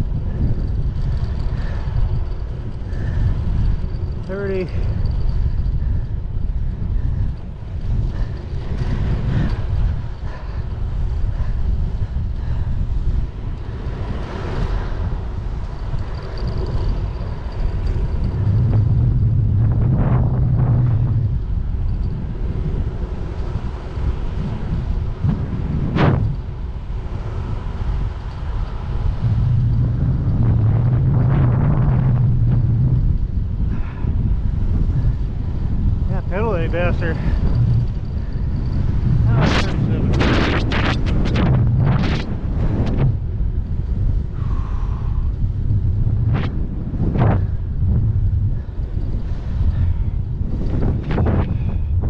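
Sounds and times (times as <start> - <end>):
bike and trailer rumble: 0.0 - 52.0
steady low hum: 0.0 - 52.0
wind buffeting microphone: 0.0 - 52.0.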